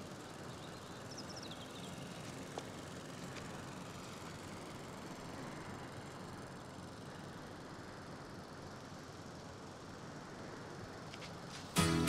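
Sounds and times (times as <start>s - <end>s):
steady breeze: 0.0s - 12.0s.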